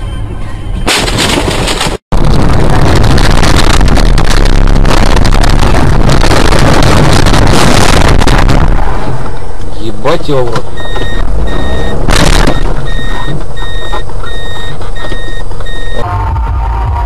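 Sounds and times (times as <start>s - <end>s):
wind and road noise: 0.0s - 16.1s.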